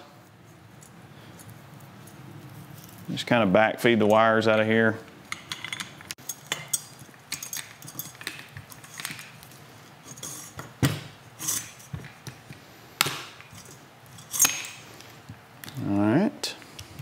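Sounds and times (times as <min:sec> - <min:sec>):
wires clicking and rustling: 0:00.4 - 0:16.0.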